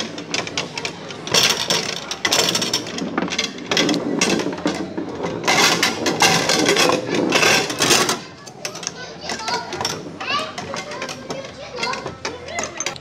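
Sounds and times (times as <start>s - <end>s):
figures clacking against ball: 0.0s - 13.0s
foosball rods spinning and rattling: 0.0s - 13.0s.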